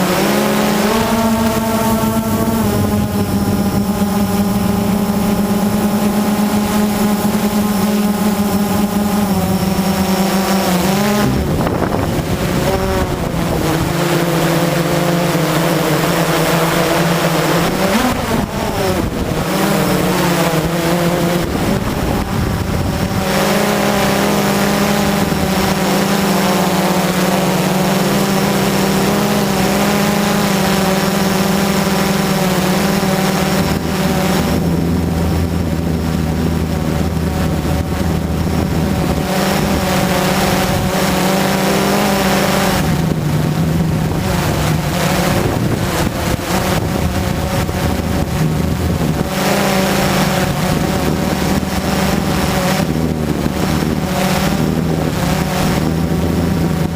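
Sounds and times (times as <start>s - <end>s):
quadcopter motors humming: 0.0s - 56.9s.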